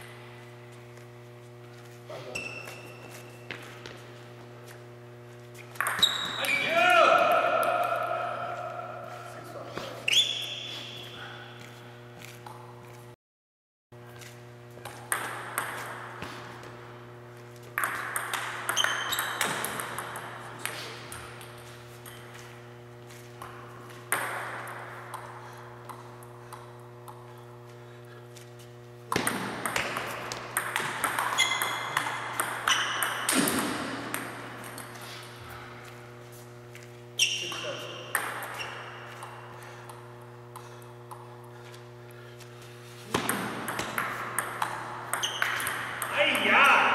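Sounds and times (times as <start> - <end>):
steady low hum: 0.0 - 13.2, 14.0 - 46.9.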